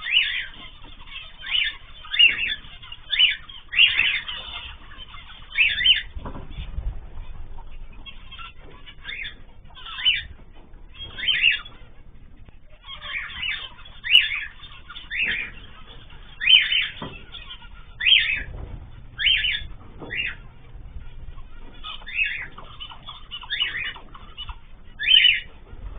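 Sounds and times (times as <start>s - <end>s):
caged birds calling: 0.0s - 25.9s.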